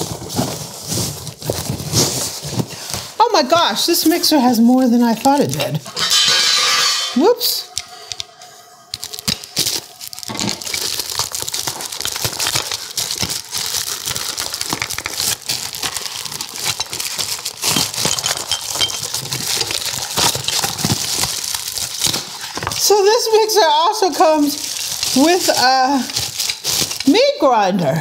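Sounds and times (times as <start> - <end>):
packaging crinkling and rustling: 0.0 - 6.0, 8.9 - 27.4.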